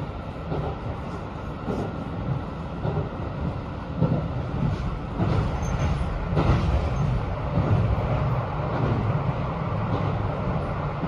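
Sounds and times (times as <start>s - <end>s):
train wheels rumbling on rail: 0.0s - 11.0s
train wheel clack: 0.4s - 10.8s.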